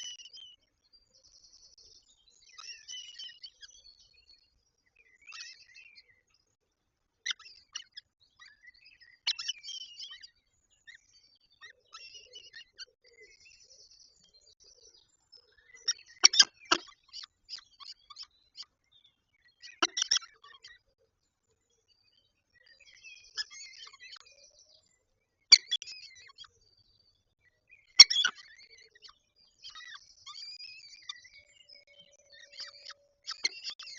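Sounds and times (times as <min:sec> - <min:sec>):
bird chirps and calls: 0:00.0 - 0:06.4, 0:07.2 - 0:20.9, 0:21.6 - 0:33.9
bird trill: 0:00.0 - 0:06.4, 0:07.2 - 0:20.9, 0:21.8 - 0:33.9.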